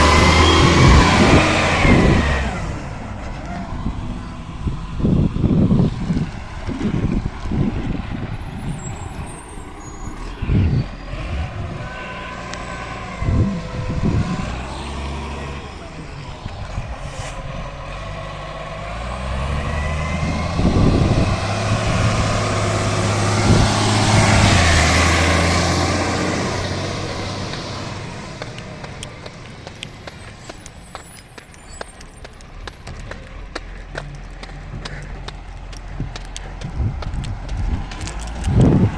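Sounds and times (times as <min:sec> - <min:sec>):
garbage truck diesel engine: 0:00.0 - 0:38.9.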